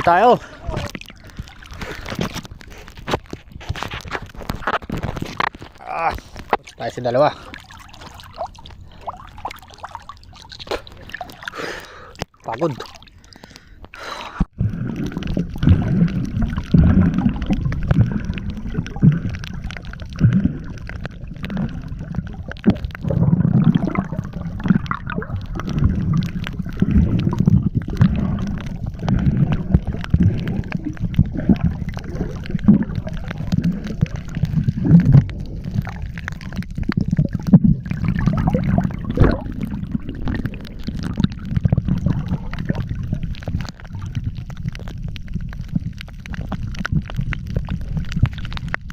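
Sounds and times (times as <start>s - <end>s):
water gurgling and rushing: 0.0s - 48.9s.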